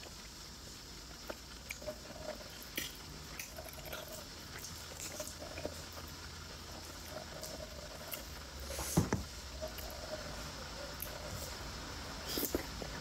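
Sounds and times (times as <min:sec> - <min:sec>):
chewing dumpling: 0:01.0 - 0:08.8, 0:09.4 - 0:13.0.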